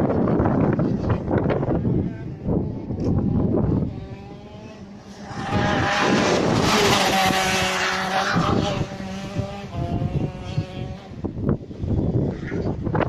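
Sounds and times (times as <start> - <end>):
go-kart engine passing: 0.2 - 12.9.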